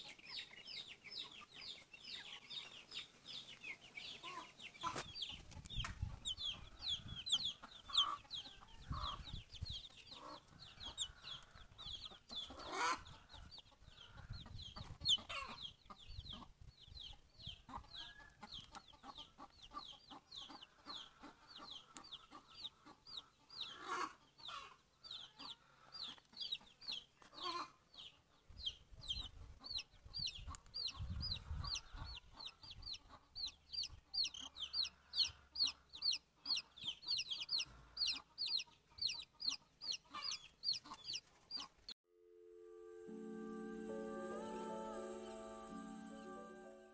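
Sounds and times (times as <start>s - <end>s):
chicken calls: 0.0s - 16.5s, 17.1s - 27.8s, 29.2s - 41.8s
chicks peeping: 0.0s - 41.9s.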